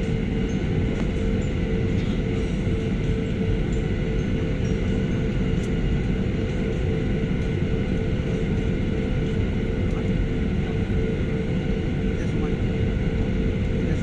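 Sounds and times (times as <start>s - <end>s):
jet engines whine and rumble: 0.0s - 14.0s.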